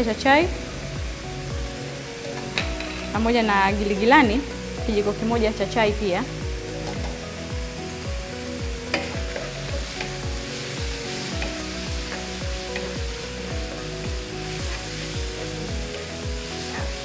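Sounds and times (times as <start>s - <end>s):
background music with steady beat: 0.0s - 17.0s
vegetables sizzling in frying pan: 0.0s - 17.0s.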